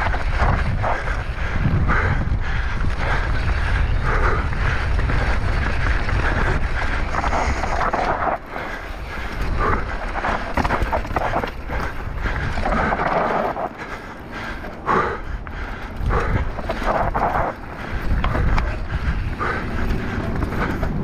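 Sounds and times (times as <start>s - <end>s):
mountain bike rolling and rattling: 0.0s - 21.0s
wind buffeting the microphone: 0.0s - 21.0s.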